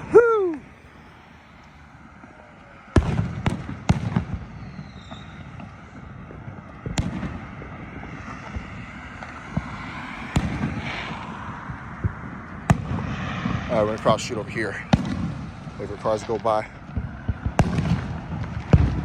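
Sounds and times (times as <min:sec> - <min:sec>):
distant fireworks crackle and rumble: 0:00.0 - 0:19.0
firecracker bangs echoing: 0:02.9 - 0:19.0.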